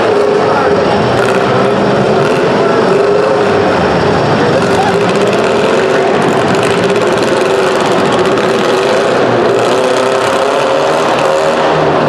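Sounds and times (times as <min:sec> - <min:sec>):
several car engines revving: 0:00.0 - 0:12.0.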